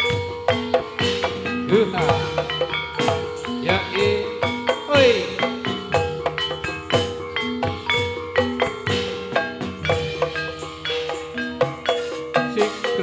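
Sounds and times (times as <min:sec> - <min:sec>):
hand drum strokes: 0:00.0 - 0:13.0
metallophones ringing: 0:00.0 - 0:13.0.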